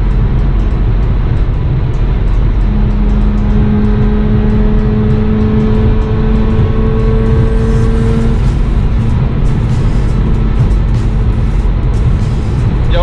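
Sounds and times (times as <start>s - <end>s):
background music with held notes: 0.0s - 13.0s
car engine low rumble: 0.0s - 13.0s
road noise: 0.0s - 13.0s.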